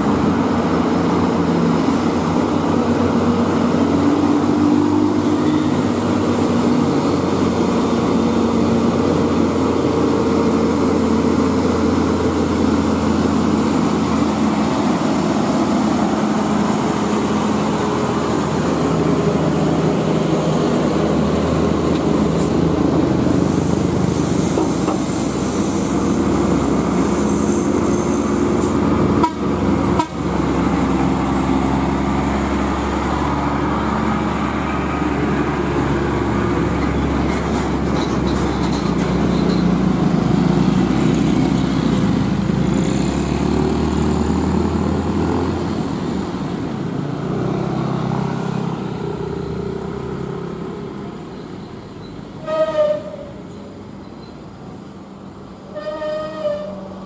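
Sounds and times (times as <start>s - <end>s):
heavy diesel trucks passing: 0.0s - 57.0s.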